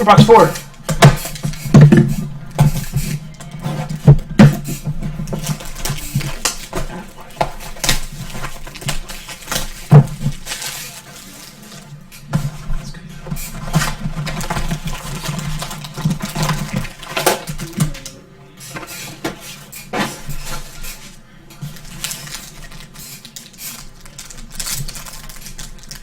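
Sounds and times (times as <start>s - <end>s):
card packs being torn open: 0.0s - 26.0s.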